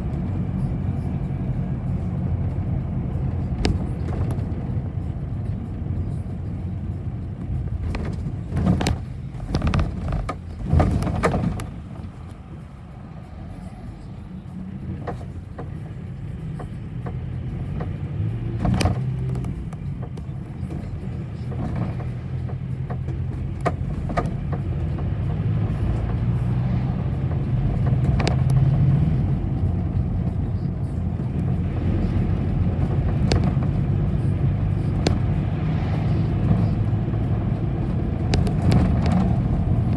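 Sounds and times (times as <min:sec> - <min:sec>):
bus body rattling over bumps: 0:00.0 - 0:12.9, 0:14.0 - 0:39.9
bus engine rumbling: 0:00.0 - 0:39.9.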